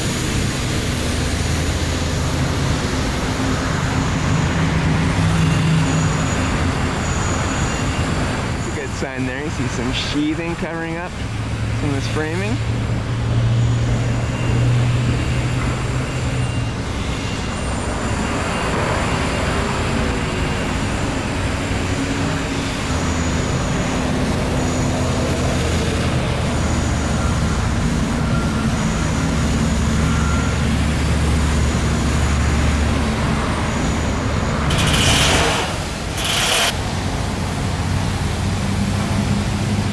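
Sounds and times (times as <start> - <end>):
loud rush of noise: 0.0 - 39.9
road traffic passing: 0.0 - 39.9.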